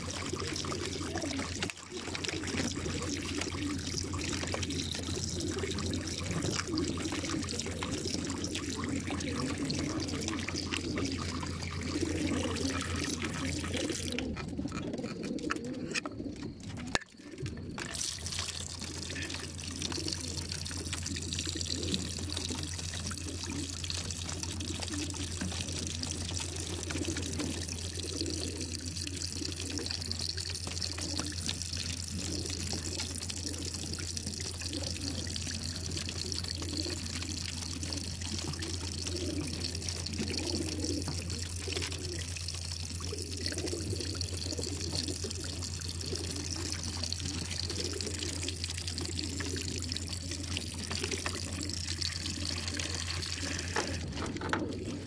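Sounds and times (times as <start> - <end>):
constant low hum: 0.0 - 55.0
water trickling along trough: 0.0 - 55.0.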